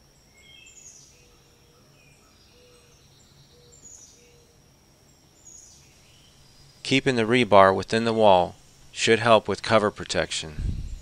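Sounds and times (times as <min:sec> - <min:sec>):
birds chirping: 0:00.0 - 0:11.0
low steady background hum: 0:00.0 - 0:11.0.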